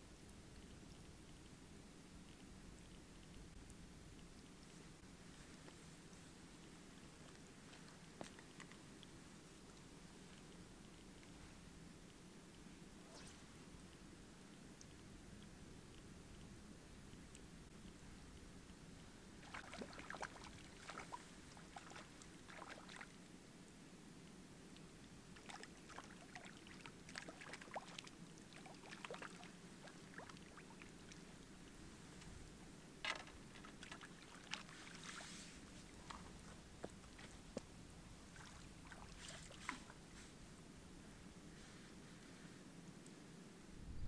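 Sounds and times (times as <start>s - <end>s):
faint water splashes: 0.2s - 42.0s.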